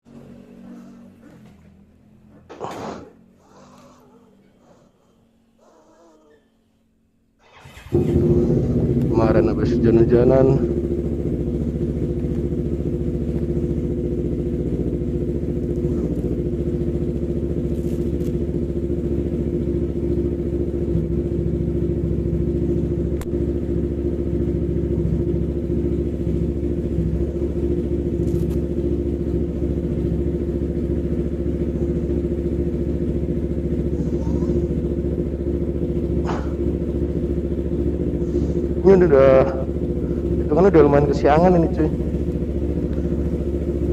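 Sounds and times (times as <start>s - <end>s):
motorcycle engine idling: 0.0s - 6.4s, 7.4s - 43.9s.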